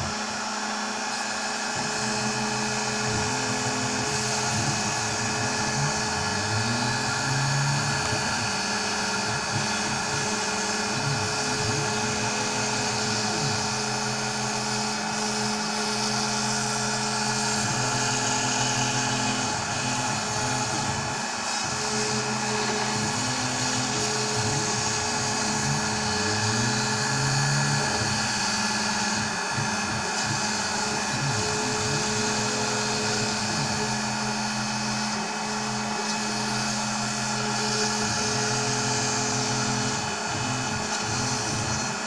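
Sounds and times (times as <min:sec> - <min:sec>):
lower machine drone: 0:00.0 - 0:42.0
router spindle whine: 0:00.0 - 0:42.0.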